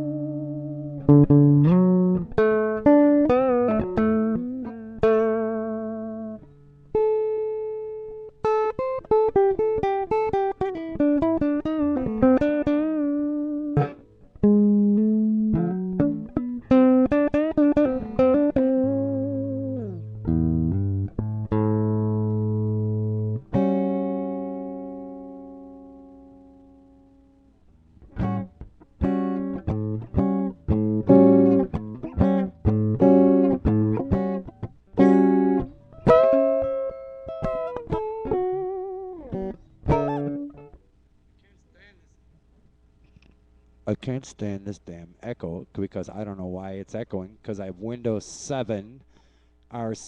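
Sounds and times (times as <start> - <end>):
plucked string melody: 0.0 - 40.8.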